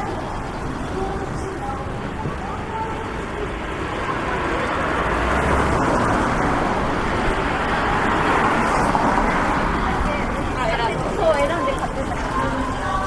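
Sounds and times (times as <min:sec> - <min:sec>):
cars going by: 0:00.0 - 0:13.0.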